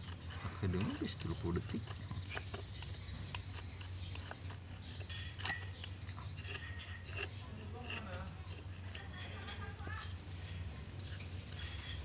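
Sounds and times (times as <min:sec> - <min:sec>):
knife cutting wood: 0:00.0 - 0:12.0.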